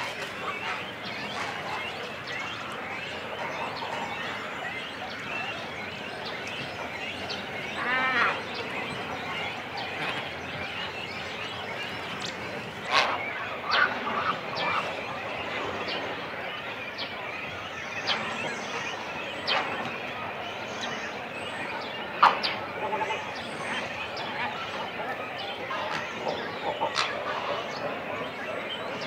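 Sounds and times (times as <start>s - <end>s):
cormorant colony calling: 0.0s - 29.0s
harsh bird calls: 0.0s - 29.0s.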